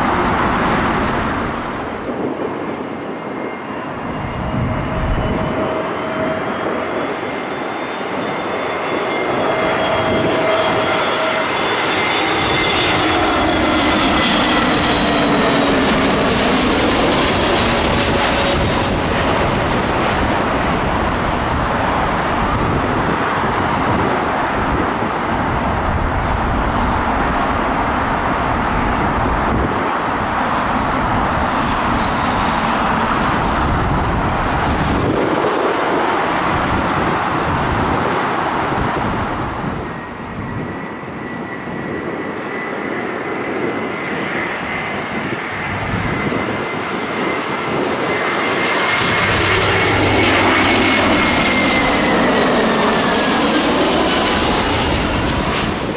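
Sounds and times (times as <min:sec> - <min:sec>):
jet airliner passing overhead: 0:00.0 - 0:55.9.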